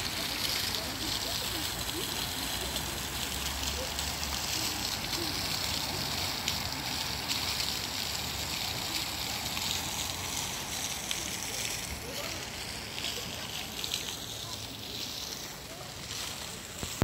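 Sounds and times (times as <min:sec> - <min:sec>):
fountain water splashing into basin: 0:00.0 - 0:17.0.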